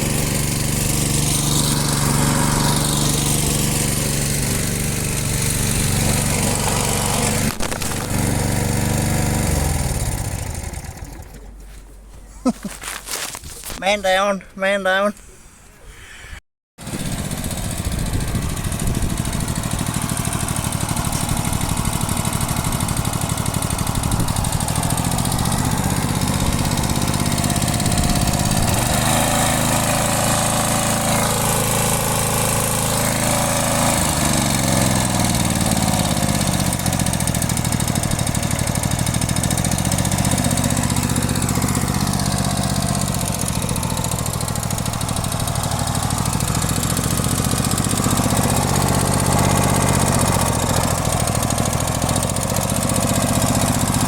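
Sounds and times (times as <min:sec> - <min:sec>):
lawn mower engine running: 0:00.0 - 0:11.7, 0:16.8 - 0:54.0.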